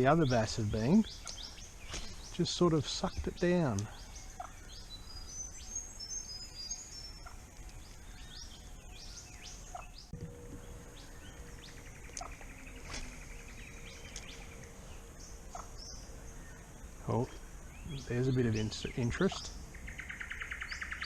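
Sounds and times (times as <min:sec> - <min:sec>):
birds chirping and whistling: 0:00.0 - 0:21.0
steady low tone: 0:00.0 - 0:21.0.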